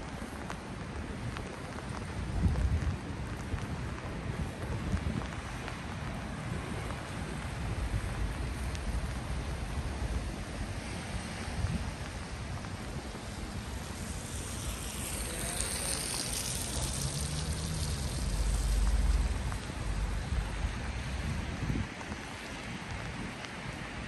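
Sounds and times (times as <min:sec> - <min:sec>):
rain hissing on street: 0:00.0 - 0:24.0
vehicle passing on wet road: 0:00.0 - 0:24.0.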